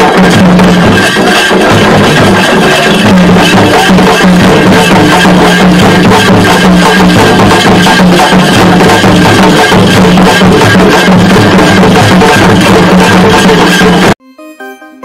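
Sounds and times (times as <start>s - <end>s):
frame drums beaten fast: 0.0s - 14.2s.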